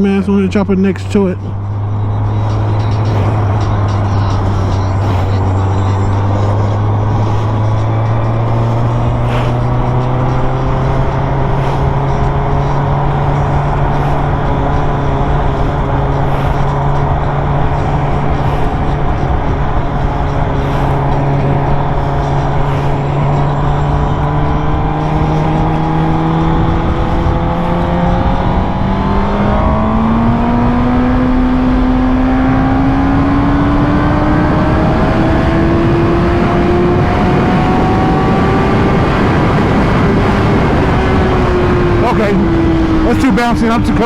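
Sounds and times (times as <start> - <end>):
motorcycle engine running: 0.0 - 44.0
wind rushing over microphone: 0.0 - 44.0.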